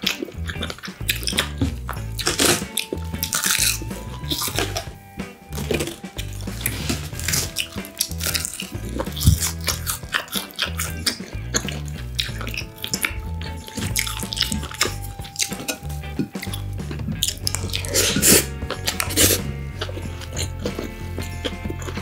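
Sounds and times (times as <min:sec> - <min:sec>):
wet chewing and mouth clicks: 0:00.0 - 0:22.0.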